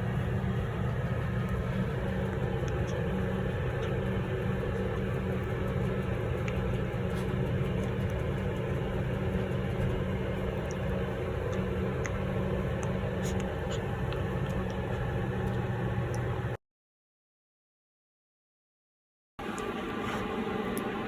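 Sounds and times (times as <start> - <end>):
low mechanical hum: 0.0 - 16.6, 19.4 - 21.0.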